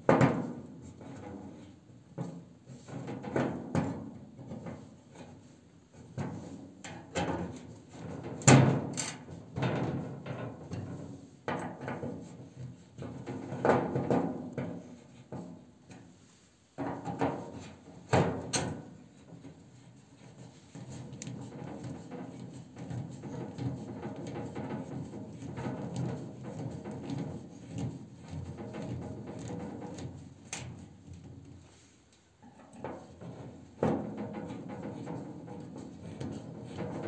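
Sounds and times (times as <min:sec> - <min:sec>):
knocks and scrapes on iron stove: 0:00.1 - 0:16.2, 0:16.8 - 0:31.8, 0:32.4 - 0:37.0.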